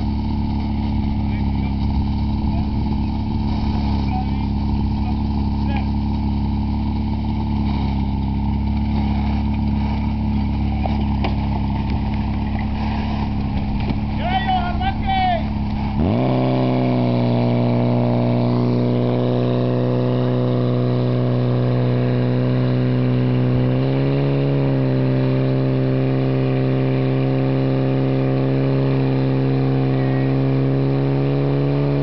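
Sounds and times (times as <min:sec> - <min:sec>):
pump engine running at high revs: 0:00.0 - 0:32.0.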